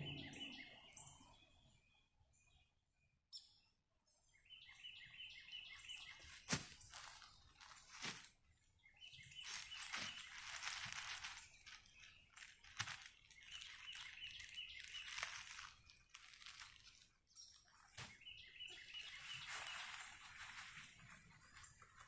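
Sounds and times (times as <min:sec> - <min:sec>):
bird chirping: 0:00.0 - 0:07.7, 0:08.6 - 0:22.0.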